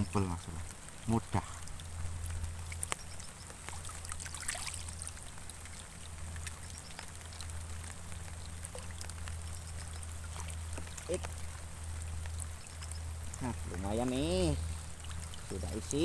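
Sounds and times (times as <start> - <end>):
small drip-like clicks: 0.0 - 16.0
steady low rumble: 0.0 - 16.0
water trickling and splashing: 0.0 - 16.0.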